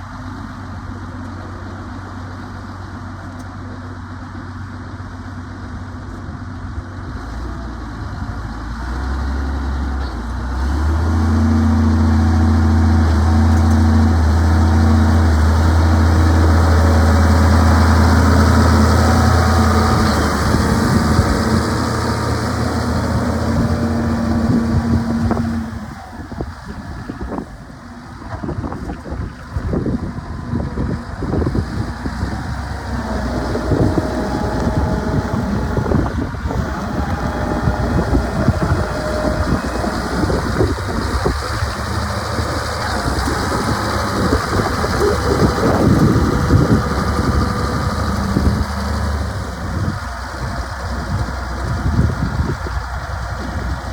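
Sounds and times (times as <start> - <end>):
tractor diesel engine idling: 0.0 - 53.9
wind buffeting microphone: 10.5 - 53.9.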